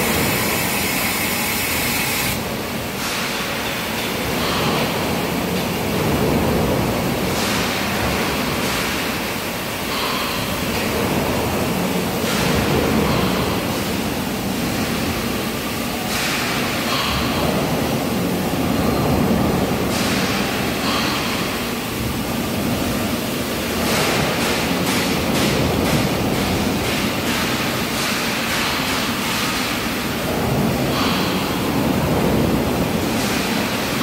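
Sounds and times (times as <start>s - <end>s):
factory machinery noise: 0.0s - 34.0s.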